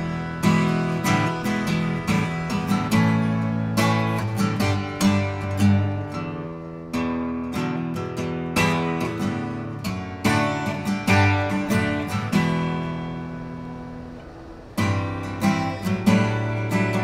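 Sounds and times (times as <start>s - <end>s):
solo guitar playing: 0.0s - 17.0s.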